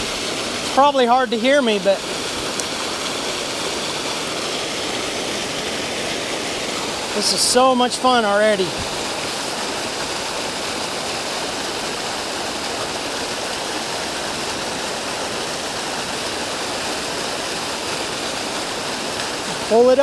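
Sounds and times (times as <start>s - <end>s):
water rushing from spillway: 0.0s - 20.0s.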